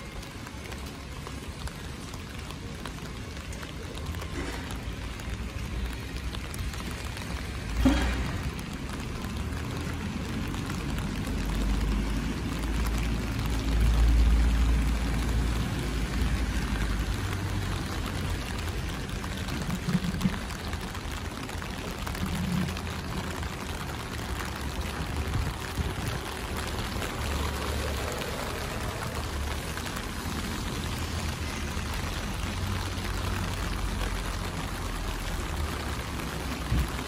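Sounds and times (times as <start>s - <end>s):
rain on stone paving: 0.0s - 37.0s.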